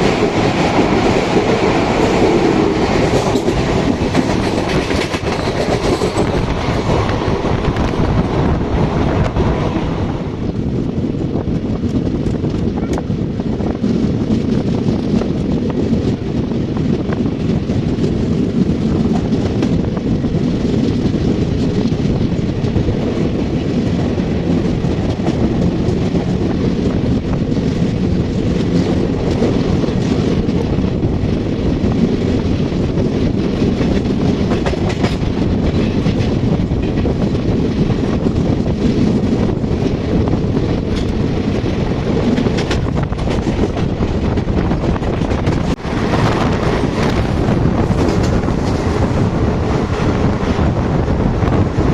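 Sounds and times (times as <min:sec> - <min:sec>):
rail joints clickety-clack: 0:00.0 - 0:51.9
train wheels rumbling on rails: 0:00.0 - 0:51.9.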